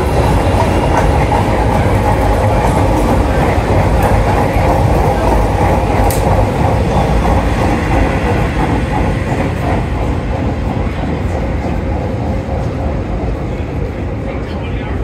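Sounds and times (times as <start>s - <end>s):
train wheels clattering over rails: 0.0s - 15.0s.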